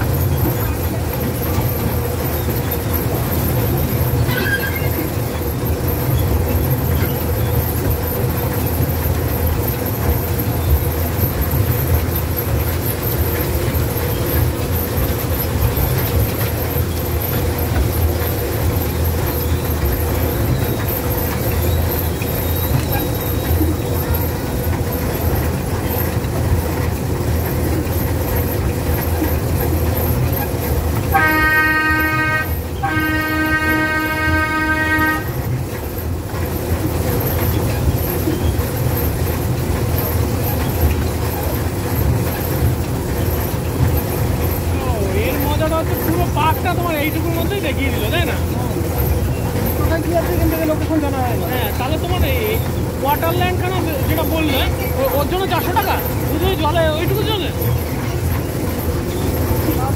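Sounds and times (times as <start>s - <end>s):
ride train rumbling on track: 0.0s - 59.9s.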